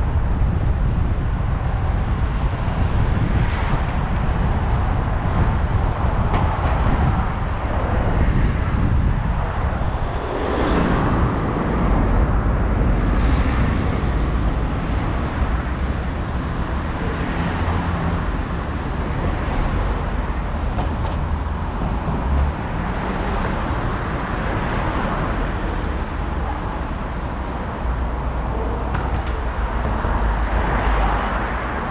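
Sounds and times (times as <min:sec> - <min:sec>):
car engine and tyre rumble: 0:00.0 - 0:31.9.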